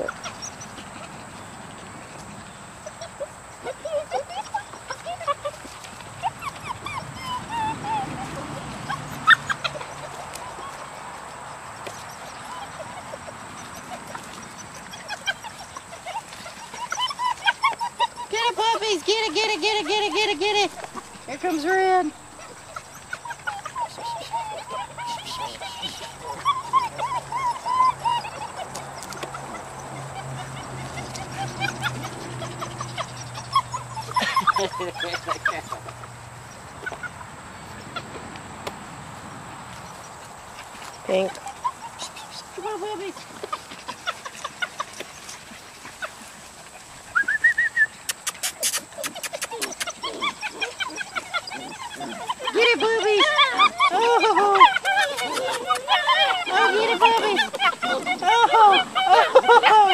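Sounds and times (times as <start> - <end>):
puppies yipping and whining: 0.0 - 38.5, 39.1 - 59.9.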